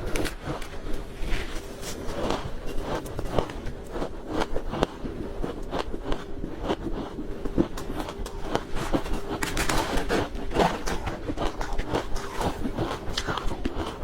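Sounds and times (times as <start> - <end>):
faint steady hum: 0.0 - 14.0
person crunching ice: 0.0 - 14.0.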